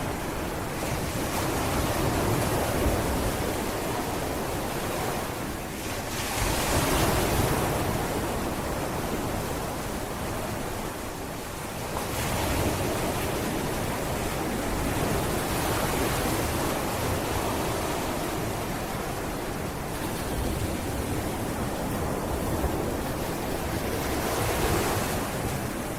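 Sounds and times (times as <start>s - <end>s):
sea waves washing onto beach: 0.0s - 25.9s.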